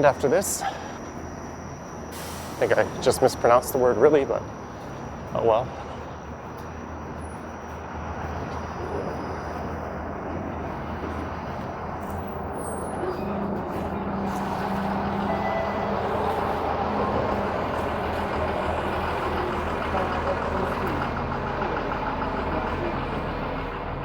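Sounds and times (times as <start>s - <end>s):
heavy vehicle engine running: 0.0s - 24.0s
passing traffic: 0.0s - 24.0s.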